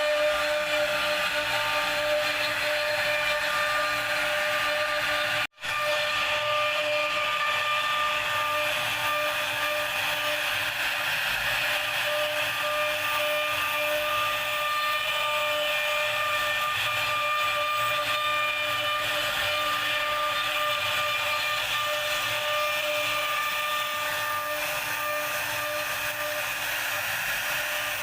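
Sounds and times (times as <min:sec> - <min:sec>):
router spindle whine: 0:00.0 - 0:28.0.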